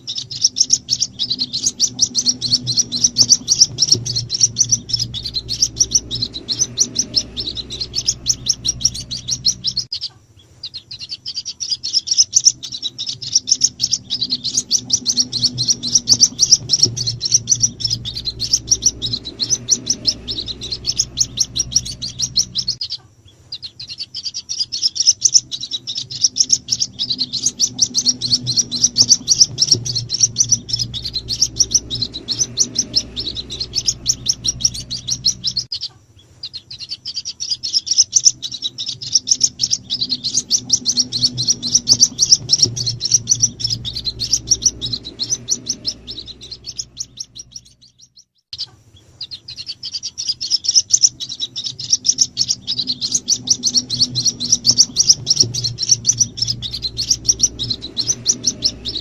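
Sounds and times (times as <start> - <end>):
low steady hum: 0.0 - 48.0, 48.6 - 59.0
bird chicks peeping: 0.0 - 59.0.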